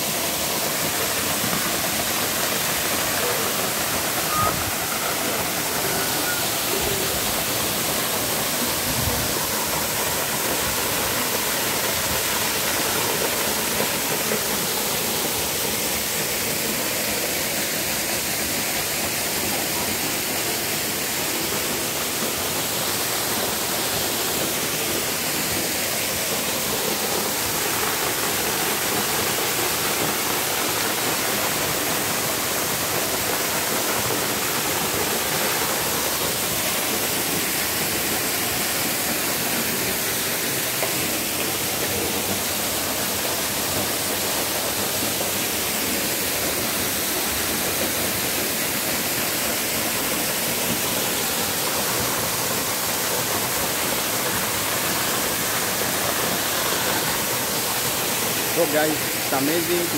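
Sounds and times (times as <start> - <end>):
waterfall rushing onto rocks: 0.0 - 59.9.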